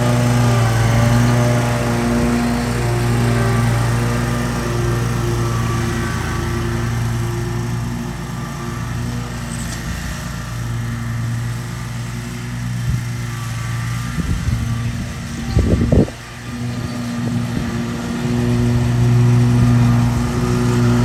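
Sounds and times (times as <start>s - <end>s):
riding mower engine drone: 0.0s - 21.0s.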